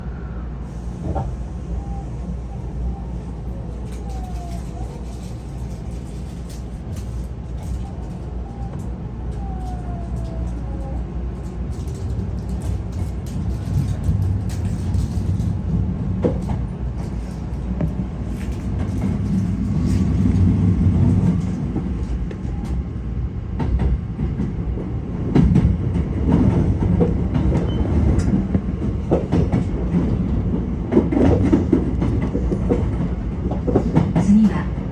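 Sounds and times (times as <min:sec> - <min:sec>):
train rumbling on rails: 0:00.0 - 0:34.9
wheels clicking over rail joints: 0:03.1 - 0:22.9, 0:25.4 - 0:34.6.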